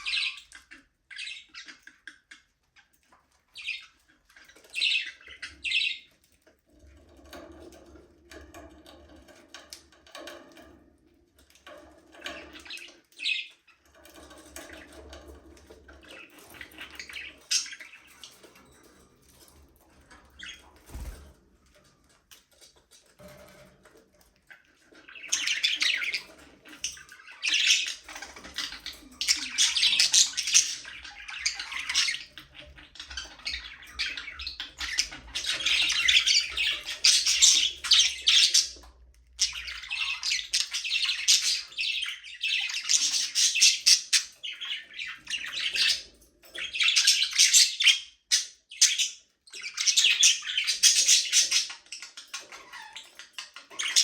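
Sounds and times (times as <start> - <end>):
budgerigars chirping and squawking: 0.0 - 10.8, 11.4 - 54.0.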